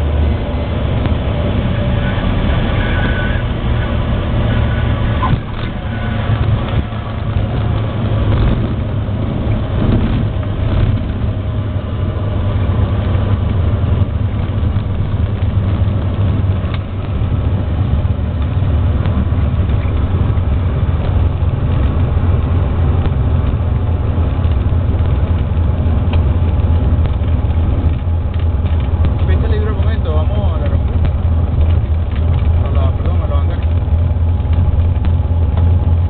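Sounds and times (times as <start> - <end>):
propeller engine droning: 0.0 - 36.0.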